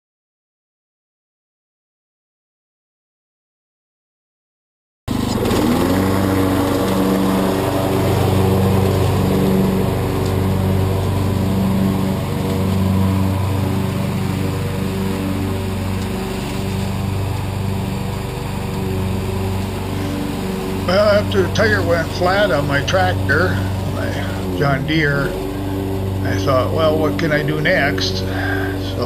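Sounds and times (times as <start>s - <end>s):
lawn tractor engine running: 5.1s - 29.0s.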